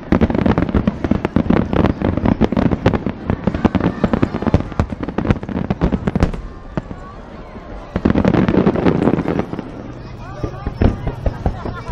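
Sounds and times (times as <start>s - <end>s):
fireworks booming and crackling: 0.0s - 11.9s.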